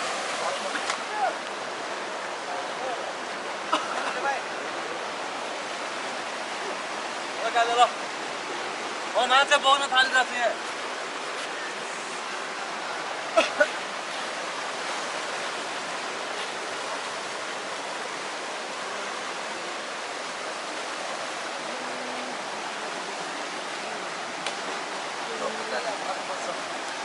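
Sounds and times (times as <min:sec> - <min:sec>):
stream rushing: 0:00.0 - 0:27.0.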